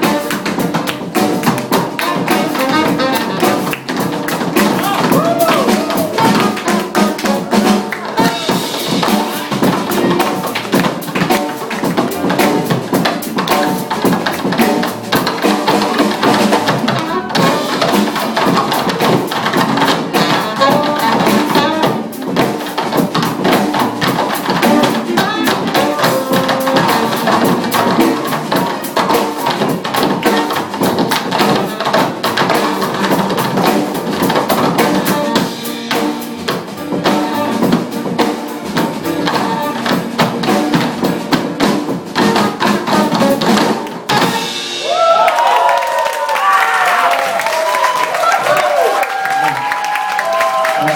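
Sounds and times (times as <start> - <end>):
busy drum kit: 0.0 - 50.9
funk band playing: 0.0 - 50.9.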